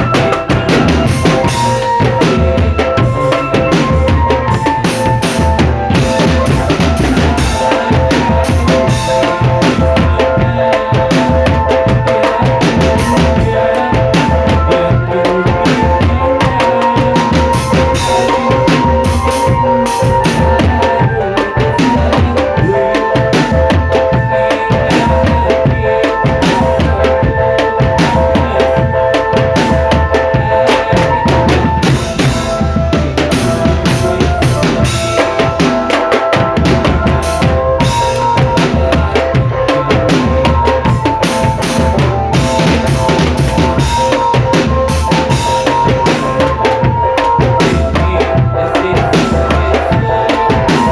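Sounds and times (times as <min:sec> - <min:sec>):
bass drums beating: 0:00.0 - 0:50.9
melody of held notes: 0:00.0 - 0:50.9.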